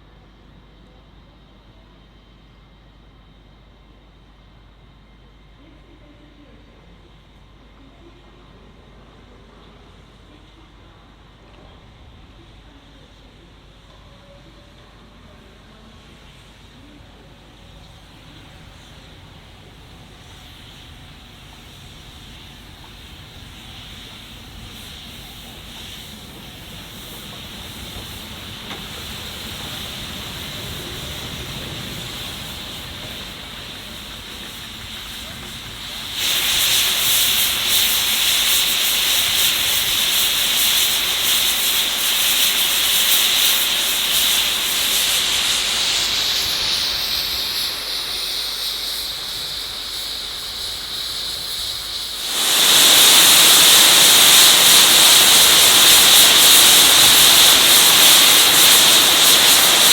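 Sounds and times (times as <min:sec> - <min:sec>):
steam locomotive rumble: 0:00.0 - 0:59.9
loud steam hissing: 0:08.4 - 0:59.9.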